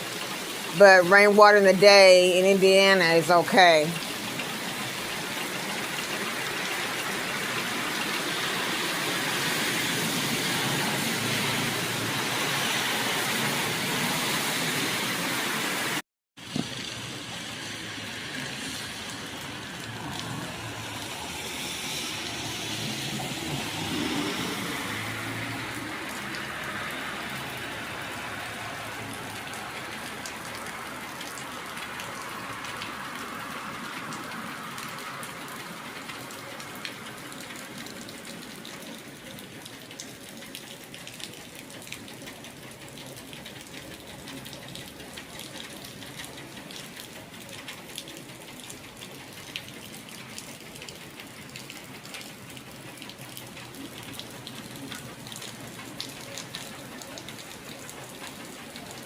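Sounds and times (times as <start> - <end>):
rain falling: 0.0 - 59.0
raindrops ticking on surfaces: 0.0 - 59.0.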